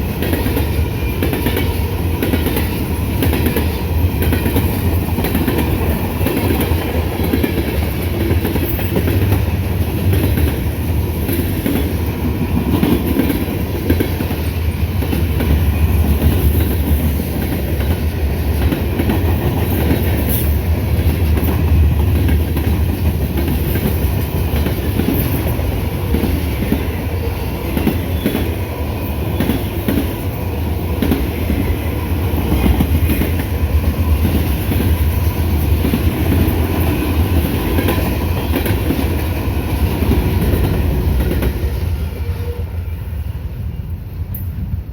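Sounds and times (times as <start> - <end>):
wheels clickety-clack over track: 0.0 - 42.6
freight train wheels rumbling: 0.0 - 44.9.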